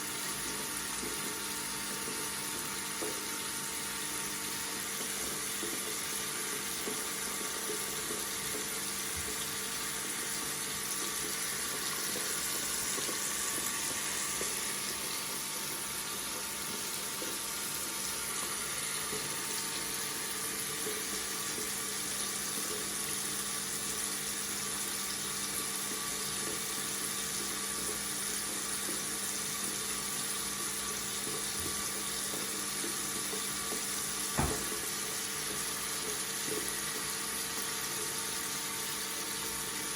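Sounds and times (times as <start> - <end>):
tap running into a sink: 0.5 - 23.6, 30.7 - 39.9.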